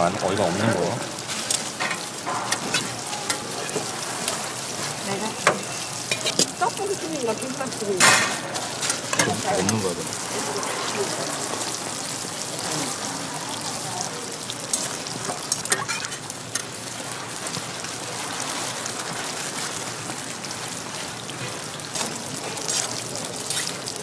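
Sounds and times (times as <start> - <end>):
pancakes sizzling in oil: 0.0 - 24.0.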